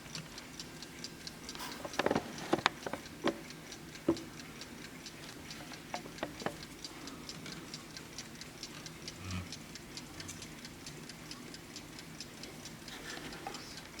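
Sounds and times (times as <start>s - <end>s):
alarm clock ticking: 0.0s - 14.0s.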